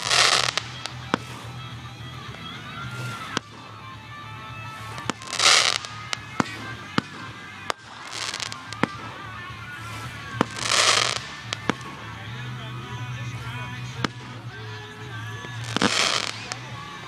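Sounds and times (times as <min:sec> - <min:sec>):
crackling hiss of fireworks: 0:00.0 - 0:17.0
fireworks bangs: 0:00.0 - 0:17.0.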